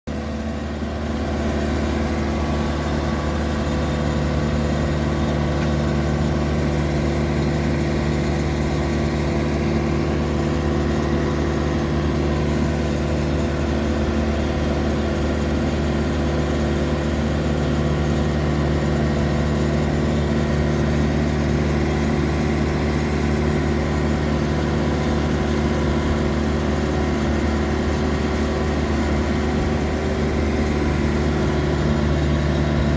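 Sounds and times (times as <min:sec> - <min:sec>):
machine engine running steadily: 0:00.1 - 0:32.9.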